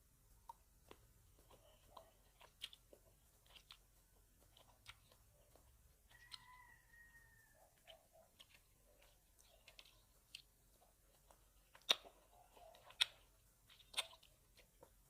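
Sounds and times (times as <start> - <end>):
chewing with wet smacks: 0.0 - 15.0.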